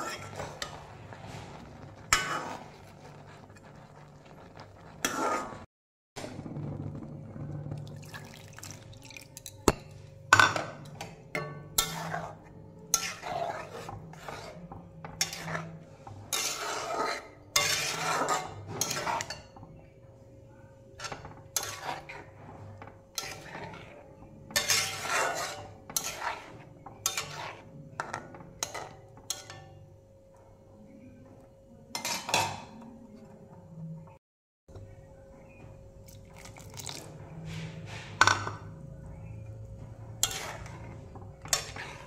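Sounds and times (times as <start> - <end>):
metal ladle scraping pan: 0.0 - 19.8, 20.8 - 29.9, 31.9 - 33.4, 36.3 - 38.8, 39.7 - 42.0.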